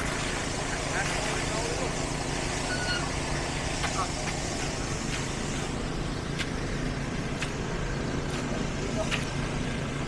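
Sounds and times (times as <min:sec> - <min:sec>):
construction machinery engine: 0:00.0 - 0:10.0.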